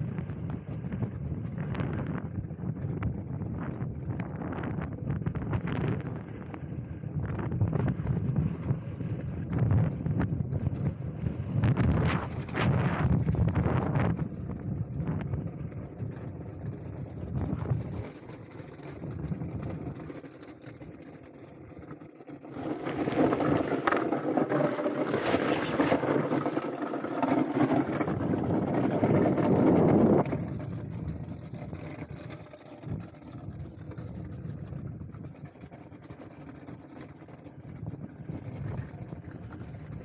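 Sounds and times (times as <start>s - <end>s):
wind buffeting microphone: 0.0s - 40.0s
skates scraping over ice: 7.5s - 40.0s.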